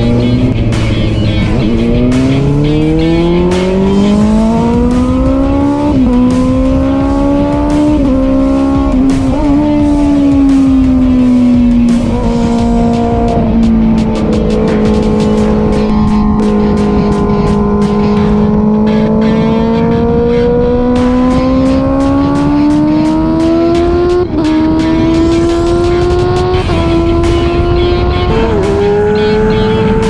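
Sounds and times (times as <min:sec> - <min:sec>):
racing engine revving through gears: 0:00.0 - 0:30.0.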